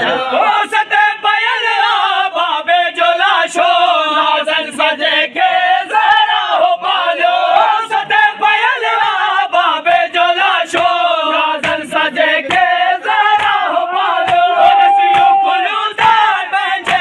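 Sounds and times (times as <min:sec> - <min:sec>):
men chanting a lament: 0:00.0 - 0:17.0.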